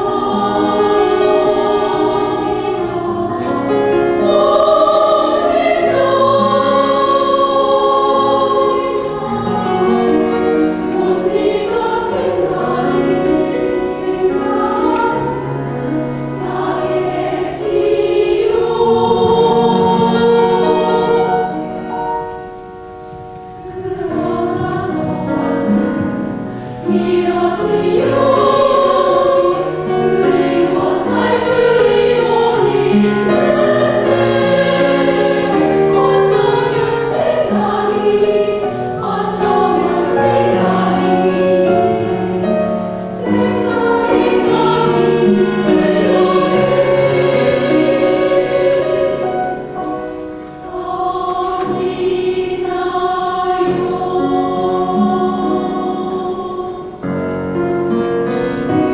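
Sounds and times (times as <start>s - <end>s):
choir singing sustained notes: 0.0s - 58.9s.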